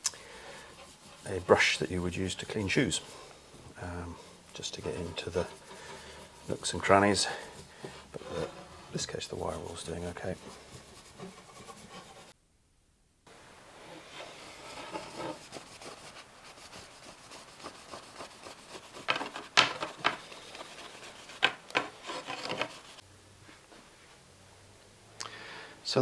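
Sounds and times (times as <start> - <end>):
wire wool rubbing wood: 0.0 - 12.4, 13.6 - 23.0.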